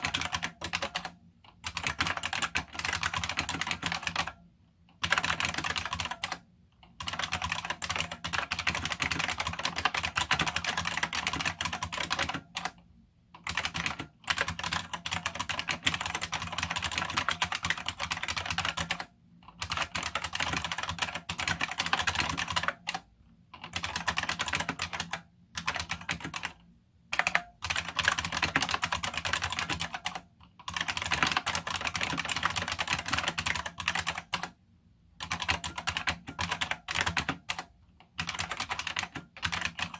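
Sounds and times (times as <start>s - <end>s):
clicky keyboard typing: 0.0s - 34.6s, 35.2s - 39.9s.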